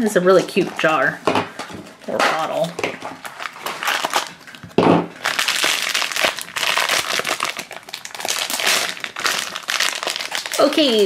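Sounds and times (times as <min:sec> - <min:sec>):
plastic wrapper crinkling: 0:00.1 - 0:11.0.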